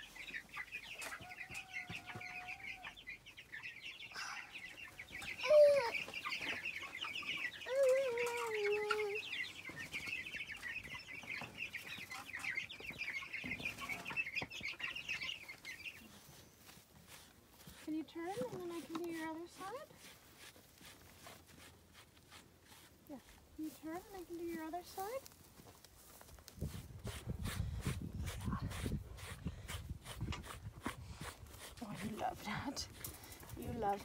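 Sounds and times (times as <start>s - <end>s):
chicks peeping: 0.0s - 22.4s, 23.6s - 34.0s.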